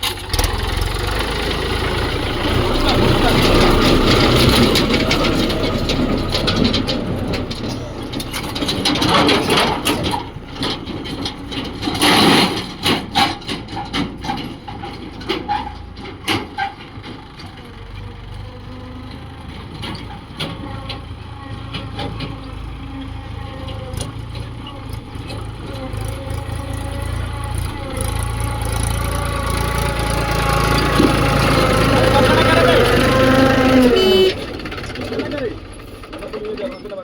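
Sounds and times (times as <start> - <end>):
engine knocks: 0.0 - 37.0
heavy diesel engine running: 0.0 - 37.0.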